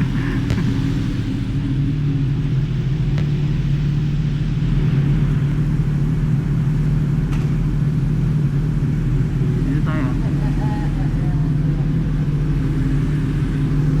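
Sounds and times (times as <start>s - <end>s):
motorcycle engine running steadily: 0.0s - 14.0s.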